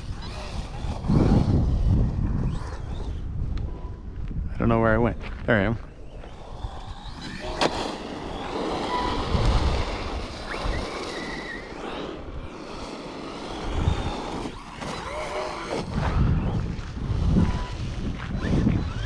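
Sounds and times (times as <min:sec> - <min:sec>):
rc truck motor whining: 0:00.0 - 0:04.1, 0:05.9 - 0:19.0
wind buffeting microphone: 0:00.0 - 0:19.0.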